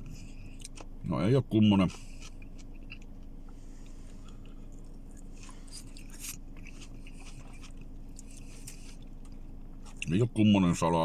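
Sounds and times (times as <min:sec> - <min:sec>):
person chewing crunchy salad: 0:00.0 - 0:01.1, 0:01.8 - 0:10.1
steady low hum: 0:00.0 - 0:11.0.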